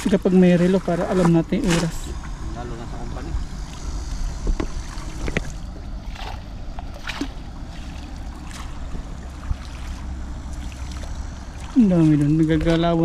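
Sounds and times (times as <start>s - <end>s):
water splashes: 0.0s - 2.6s, 3.6s - 13.0s.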